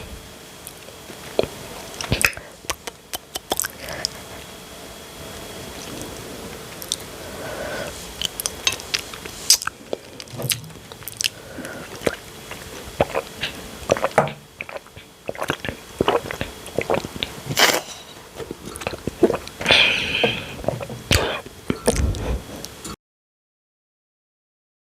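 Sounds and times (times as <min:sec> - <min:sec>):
person chewing and crunching: 0:00.6 - 0:04.5, 0:05.3 - 0:22.9.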